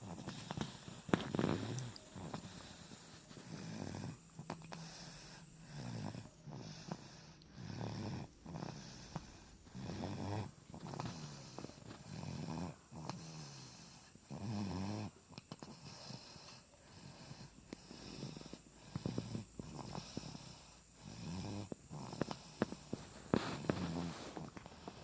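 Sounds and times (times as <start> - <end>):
baby snoring: 0.0 - 25.0.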